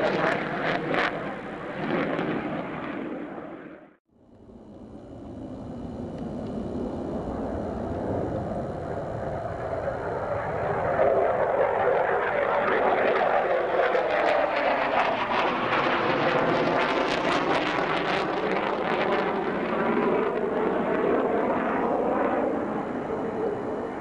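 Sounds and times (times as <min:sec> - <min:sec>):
fighter jet engines roaring: 0:00.0 - 0:24.0.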